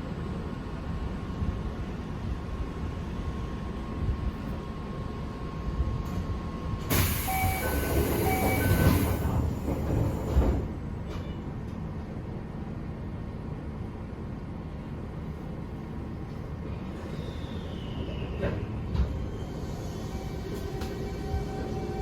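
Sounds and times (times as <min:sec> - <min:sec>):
train car rumble: 0:00.0 - 0:22.0.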